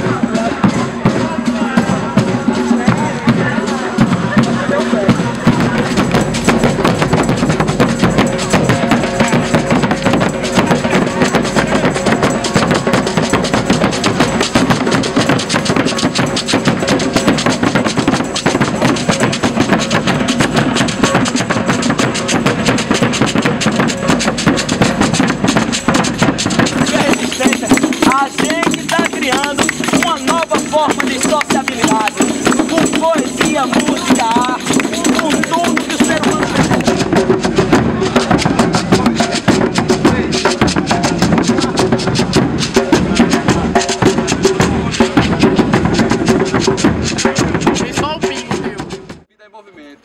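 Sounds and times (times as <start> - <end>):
fast percussion music with drums: 0.0 - 49.3.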